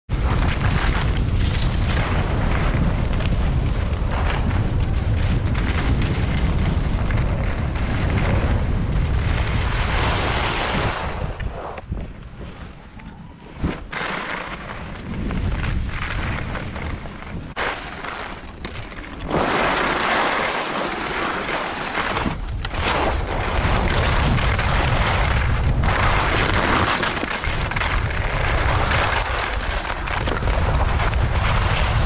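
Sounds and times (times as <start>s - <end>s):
skis scraping over snow: 0.1s - 32.0s
wind rushing over microphone: 0.1s - 32.0s.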